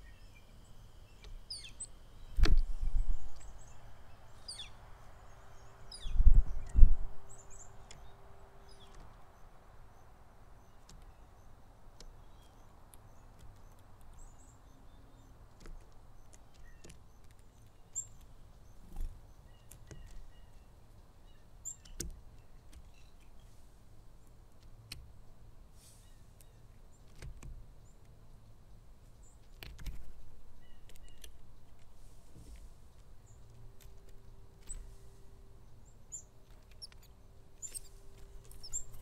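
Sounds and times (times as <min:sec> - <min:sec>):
outdoor background hiss: 0:00.0 - 0:39.0
songbirds chirping: 0:00.0 - 0:39.0.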